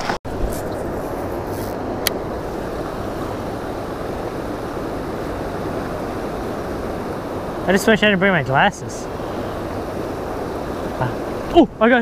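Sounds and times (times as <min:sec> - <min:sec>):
water rushing over dam: 0:02.2 - 0:12.0.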